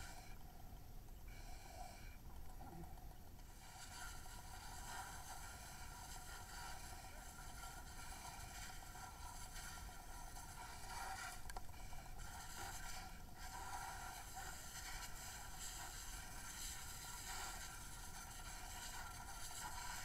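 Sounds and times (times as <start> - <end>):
fire hose spraying water: 3.6 - 20.0.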